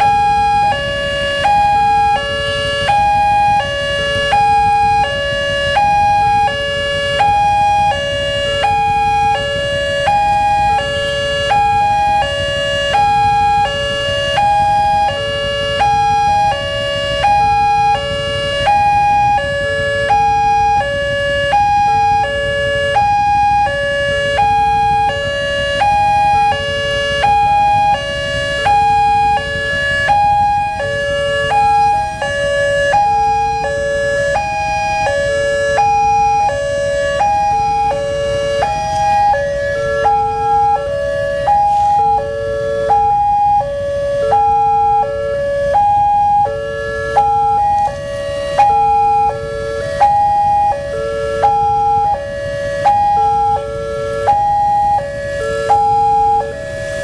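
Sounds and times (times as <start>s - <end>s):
level crossing alarm tones: 0.0s - 57.0s
road traffic rumble: 0.0s - 57.0s.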